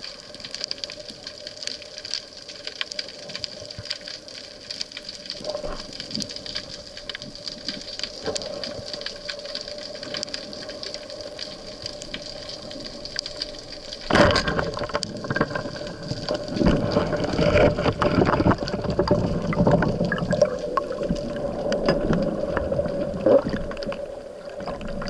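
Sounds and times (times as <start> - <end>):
underwater crackling clicks: 0.0 - 25.0.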